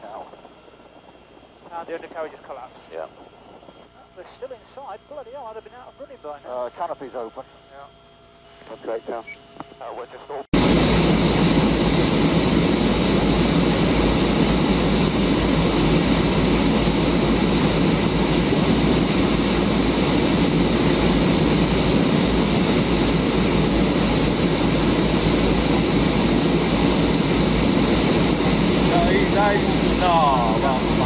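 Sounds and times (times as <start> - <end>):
jet engine running: 0.0 - 31.0.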